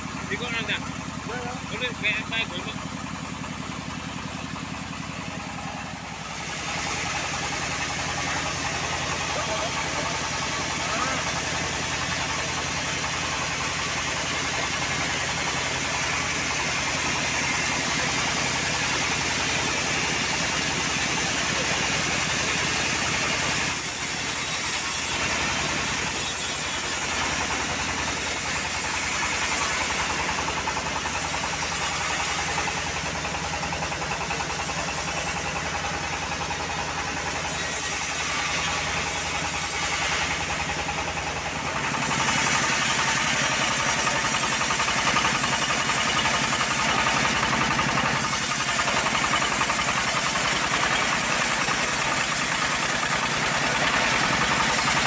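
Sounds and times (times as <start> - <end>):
bandsaw mill engine running: 0.0 - 55.0.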